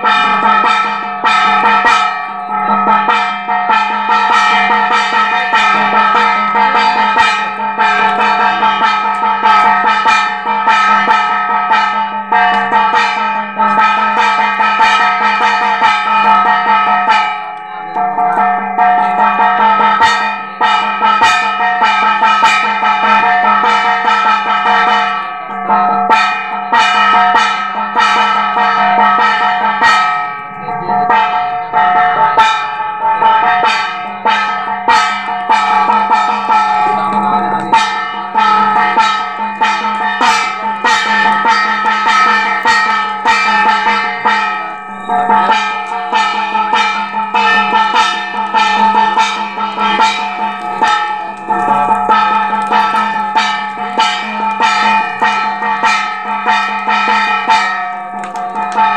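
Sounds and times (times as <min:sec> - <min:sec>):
bells ringing: 0:00.0 - 0:58.9
fast drum and bell strikes: 0:00.0 - 0:58.9.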